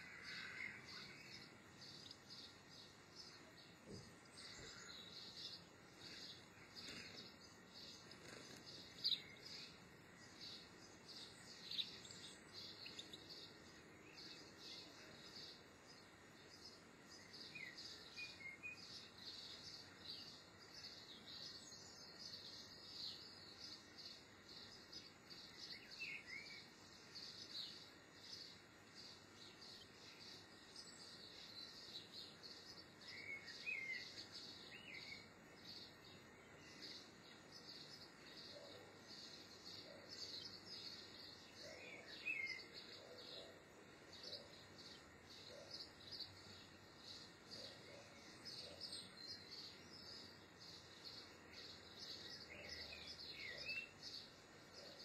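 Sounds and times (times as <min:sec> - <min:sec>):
small birds twittering: 0:00.0 - 0:55.0.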